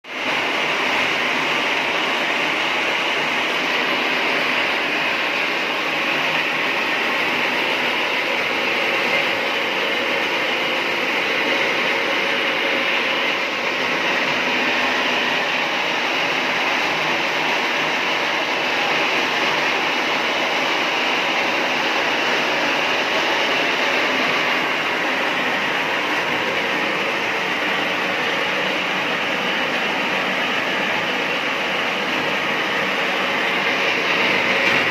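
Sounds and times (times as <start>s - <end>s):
rotisserie machine running: 0.1s - 34.9s.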